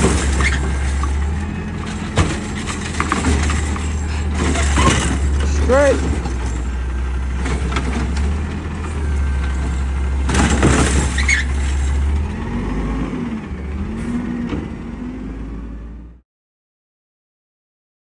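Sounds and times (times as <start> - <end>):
truck diesel engine running: 0.0 - 16.2.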